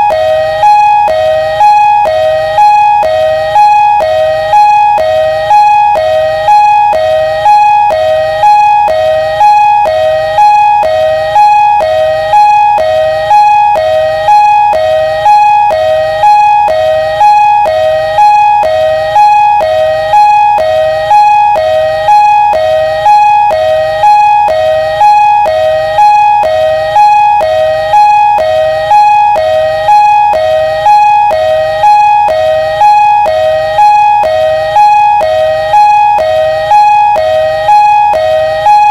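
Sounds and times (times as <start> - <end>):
ambulance siren two-tone: 0.0 - 38.9.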